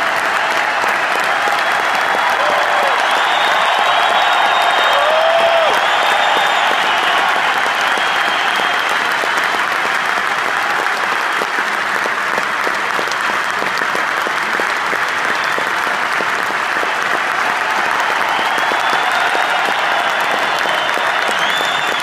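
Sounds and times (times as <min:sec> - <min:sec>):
large crowd applauding: 0:00.0 - 0:22.0.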